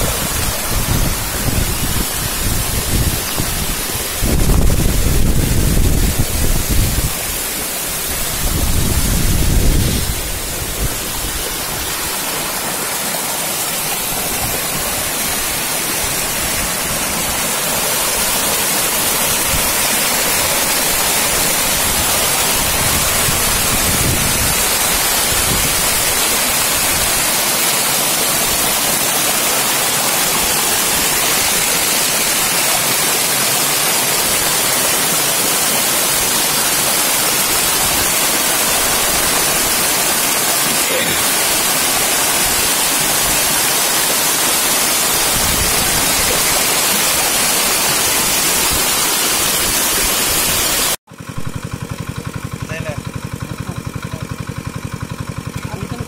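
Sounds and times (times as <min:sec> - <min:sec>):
floodwater roaring over a drop: 0:00.0 - 0:51.8.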